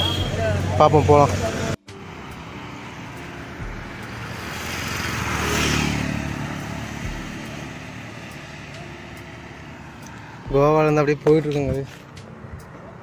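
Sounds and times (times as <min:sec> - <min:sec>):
street traffic: 0:00.0 - 0:13.0
vehicle passing by: 0:00.0 - 0:13.0.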